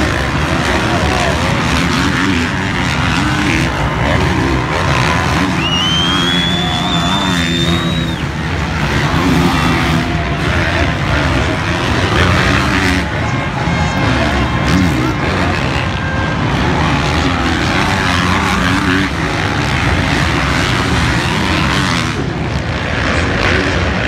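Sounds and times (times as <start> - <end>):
high steady whine: 0.0 - 24.0
motocross bike engines revving: 0.0 - 24.0.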